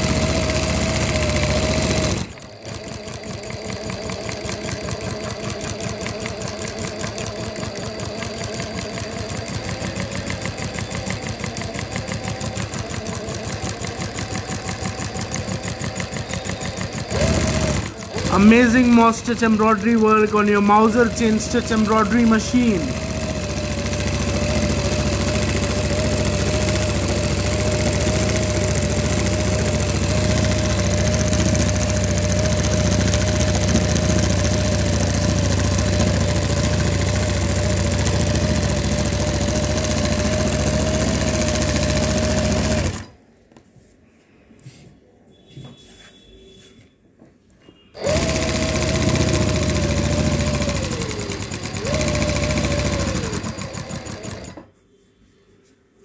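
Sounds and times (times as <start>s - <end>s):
embroidery machine running: 0.0s - 43.2s, 48.0s - 54.7s.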